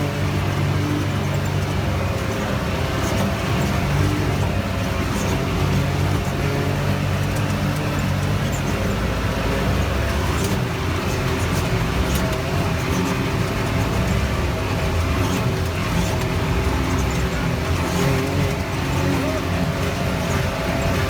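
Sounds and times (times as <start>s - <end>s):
vehicle engine running: 0.0s - 21.0s
wind and tyre noise: 0.0s - 21.0s.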